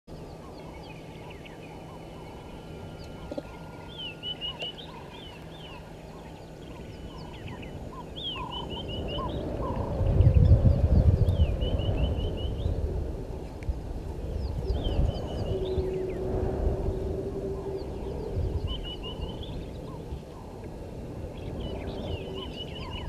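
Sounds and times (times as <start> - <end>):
low rumble: 0.1 - 23.0
wild birds chattering: 0.1 - 23.0.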